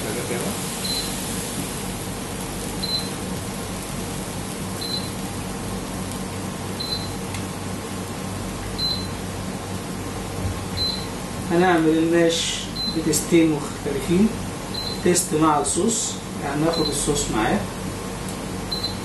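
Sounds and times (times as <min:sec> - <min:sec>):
machine hum and hiss: 0:00.0 - 0:19.0.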